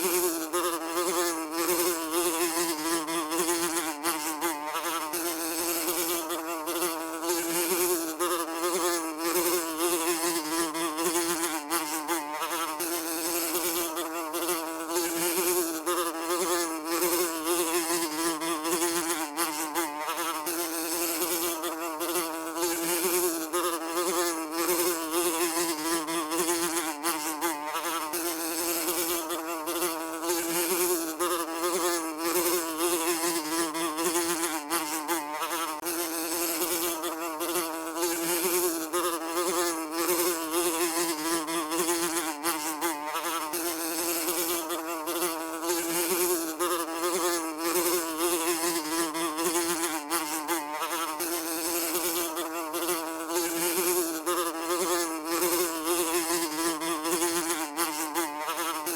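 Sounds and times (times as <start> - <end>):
fly buzzing: 0.0 - 58.9.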